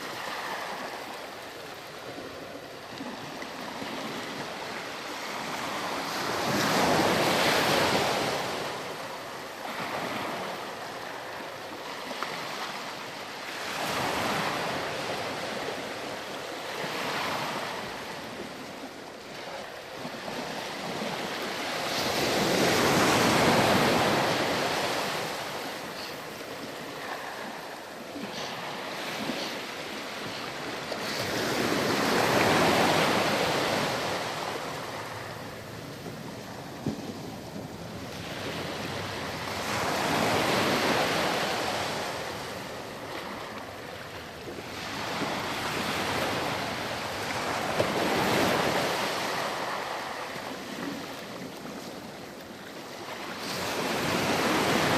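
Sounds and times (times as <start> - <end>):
ocean surf on sandy beach: 0.0 - 54.9.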